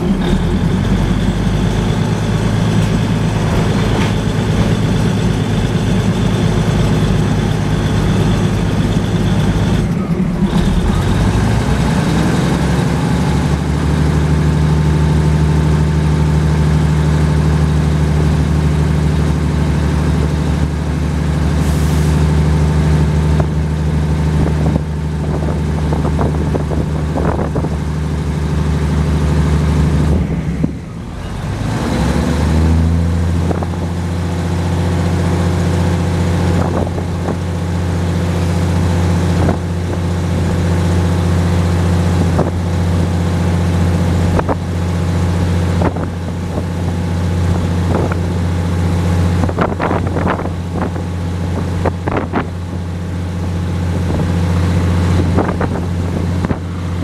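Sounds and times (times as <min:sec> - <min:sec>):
diesel train engine drone: 0:00.0 - 0:57.0.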